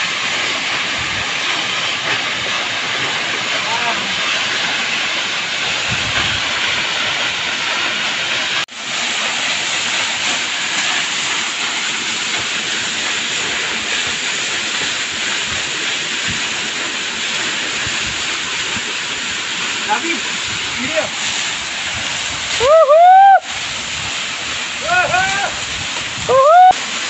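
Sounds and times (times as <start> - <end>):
waterfall pouring onto rocks: 0.0 - 27.0.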